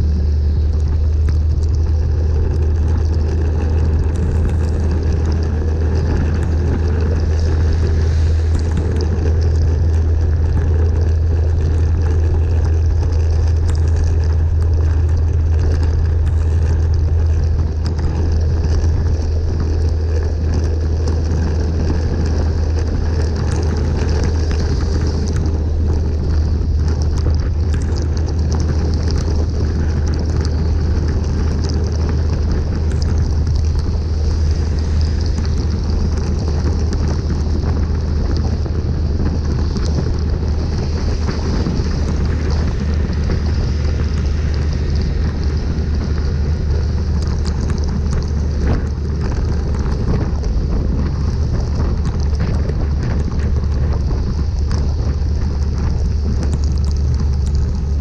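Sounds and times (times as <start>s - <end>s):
raindrops ticking: 0.0s - 58.0s
tyres hissing on wet road: 0.0s - 58.0s
vehicle road rumble: 0.0s - 58.0s.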